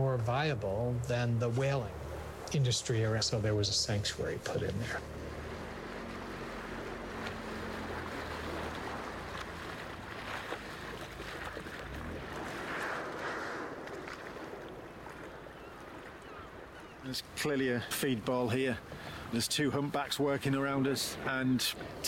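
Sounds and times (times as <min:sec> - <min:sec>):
low boat engine hum: 0:00.0 - 0:22.0
wind and lapping water: 0:00.0 - 0:22.0.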